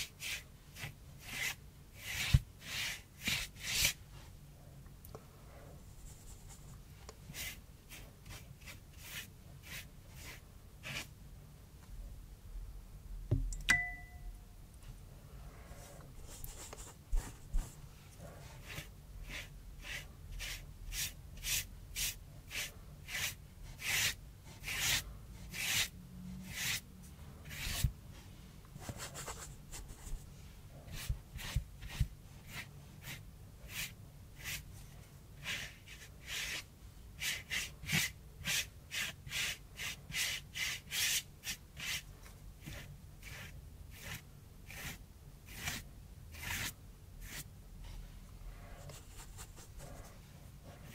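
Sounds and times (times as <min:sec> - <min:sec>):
brush swishing on cardboard: 0:00.0 - 0:04.4, 0:05.8 - 0:11.2, 0:15.7 - 0:50.9.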